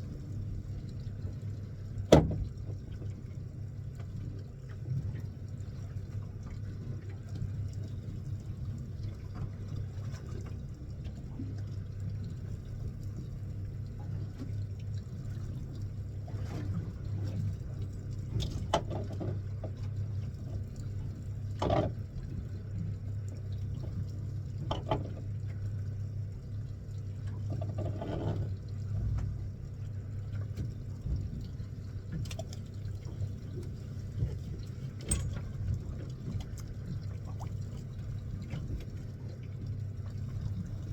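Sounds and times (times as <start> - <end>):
boat engine humming: 0.0 - 40.9
water sloshing and splashing: 0.0 - 40.9.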